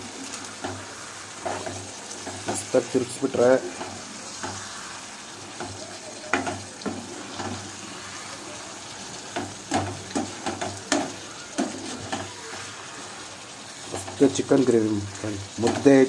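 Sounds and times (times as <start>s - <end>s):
curry sizzling in a pan: 0.0s - 16.0s
spatula scraping a pan: 0.1s - 16.0s.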